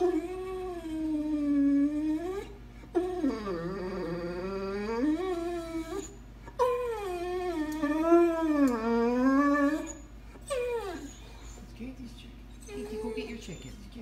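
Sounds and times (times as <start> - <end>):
dog whining howl-like cries: 0.0 - 11.6.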